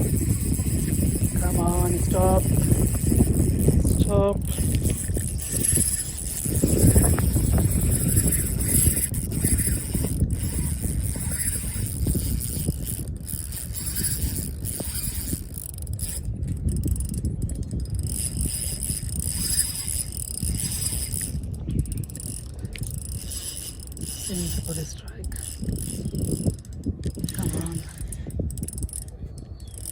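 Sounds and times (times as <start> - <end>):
fishing reel drag buzzing: 0.0 - 29.9
wind on microphone: 0.0 - 29.9.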